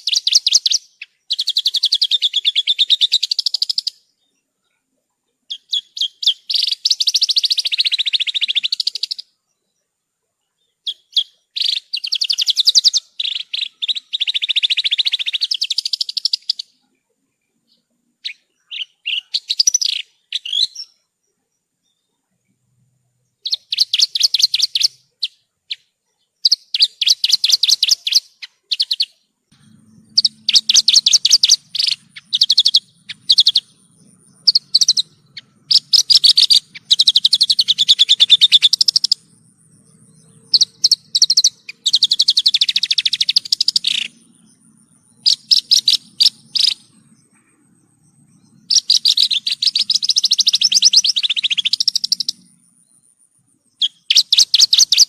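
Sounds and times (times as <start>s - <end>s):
lark singing fast trills: 0.0s - 4.3s, 5.5s - 9.3s, 10.6s - 16.9s, 17.7s - 21.1s, 23.4s - 55.0s.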